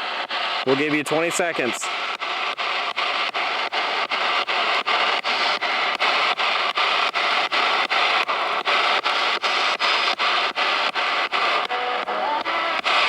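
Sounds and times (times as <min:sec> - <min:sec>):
radio static sweeping stations: 0:00.0 - 0:13.0.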